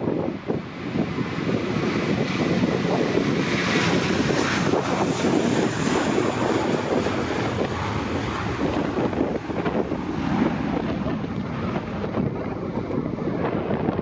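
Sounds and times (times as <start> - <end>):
jet engines passing: 0.0 - 14.0
wind on microphone: 0.0 - 14.0.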